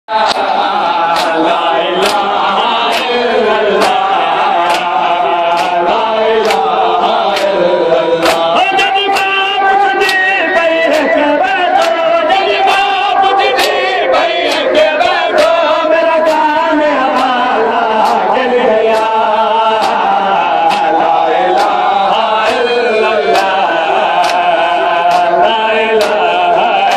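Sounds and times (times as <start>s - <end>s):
men chanting in unison: 0.1s - 26.9s.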